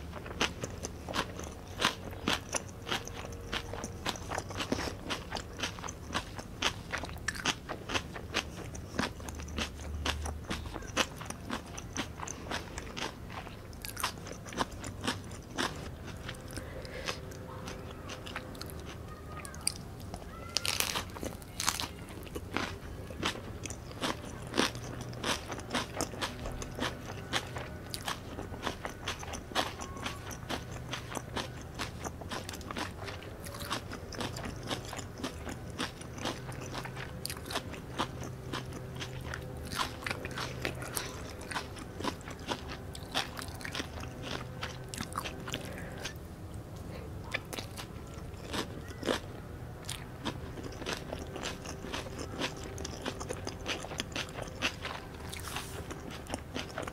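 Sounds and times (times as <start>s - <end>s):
loud crunching bite: 0.0s - 46.2s, 47.3s - 56.9s
crunchy wet chewing: 0.0s - 56.9s.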